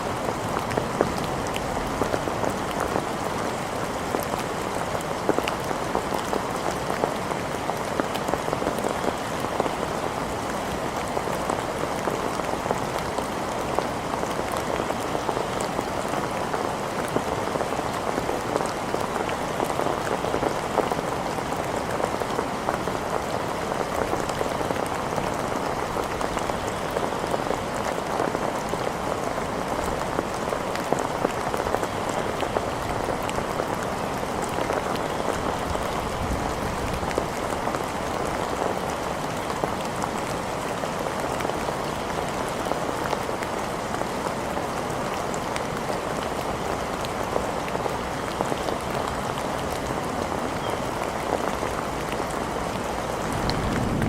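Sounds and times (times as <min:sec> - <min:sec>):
rain on hard surfaces: 0:00.0 - 0:54.0.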